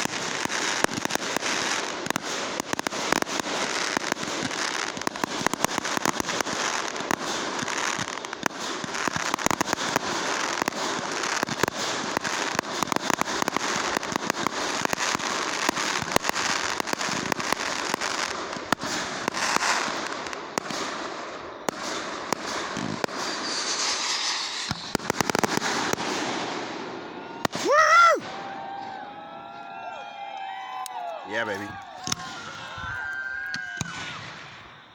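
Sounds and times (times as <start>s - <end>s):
fireworks crackling and banging: 0.0s - 34.9s.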